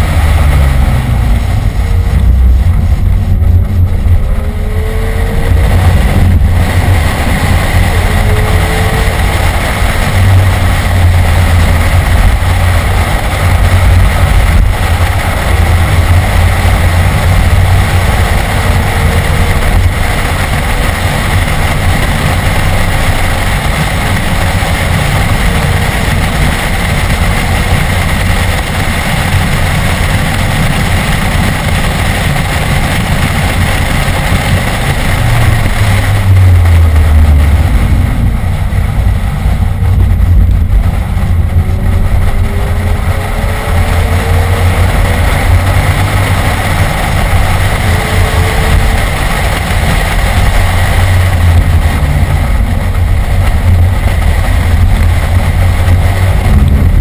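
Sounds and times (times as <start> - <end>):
car engine running hard: 0.0 - 57.0
road and wind noise: 0.0 - 57.0.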